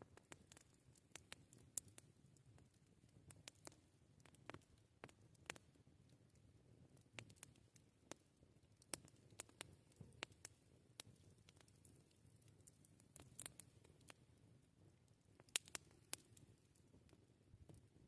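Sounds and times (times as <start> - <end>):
campfire crackling: 0.0 - 18.0
faint low fire rumble: 0.0 - 18.0.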